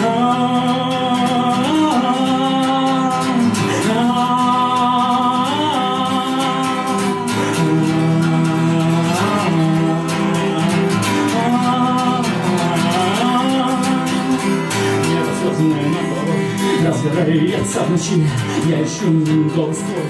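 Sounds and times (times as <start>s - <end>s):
person singing long notes: 0.0s - 20.0s
strummed acoustic guitar: 0.0s - 20.0s.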